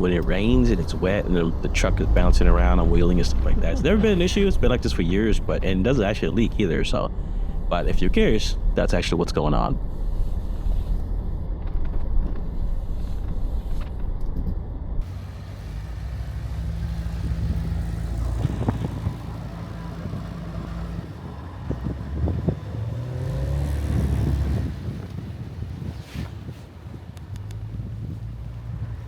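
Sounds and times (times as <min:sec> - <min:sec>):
truck engine humming: 0:00.0 - 0:13.9, 0:15.0 - 0:29.0.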